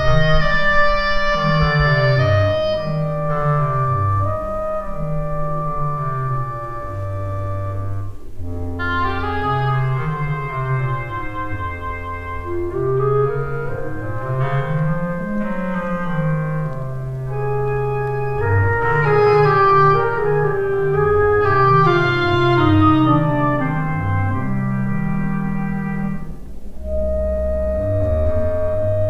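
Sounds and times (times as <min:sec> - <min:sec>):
calm organ and woodwind music: 0:00.0 - 0:29.0.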